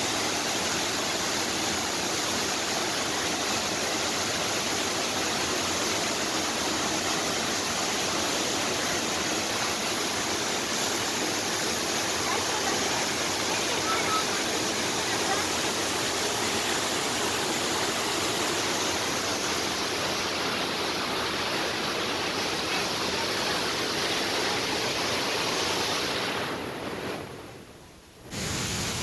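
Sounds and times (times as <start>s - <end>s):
waterfall pouring over rock: 0.0s - 27.4s, 28.2s - 29.0s.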